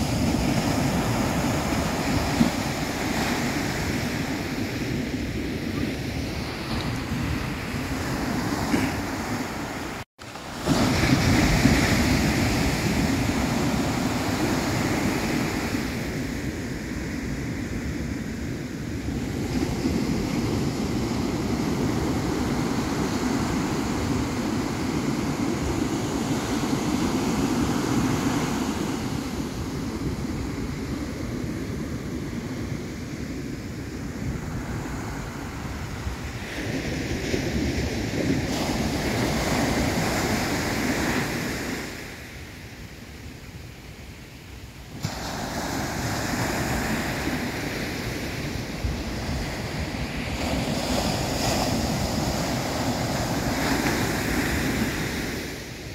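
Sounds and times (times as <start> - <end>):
ocean surf breaking on beach: 0.0 - 55.9
wind buffeting the microphone: 0.0 - 55.9.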